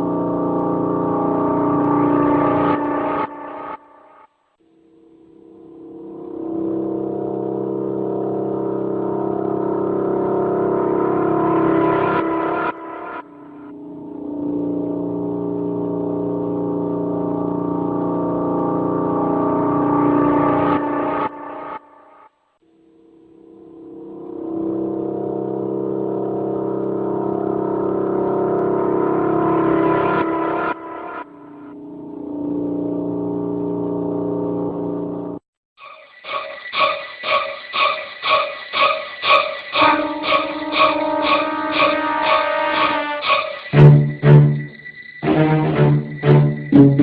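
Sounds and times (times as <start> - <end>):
steady drone of held pitches: 0.0 - 47.0.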